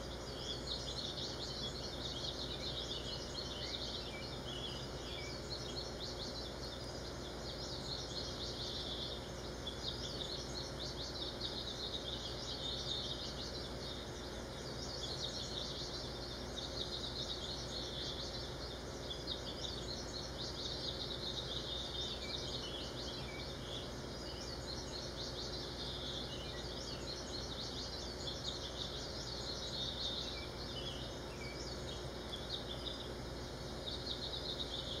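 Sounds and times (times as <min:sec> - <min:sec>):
birds chirping and twittering: 0:00.0 - 0:35.0
low steady hum: 0:00.0 - 0:35.0.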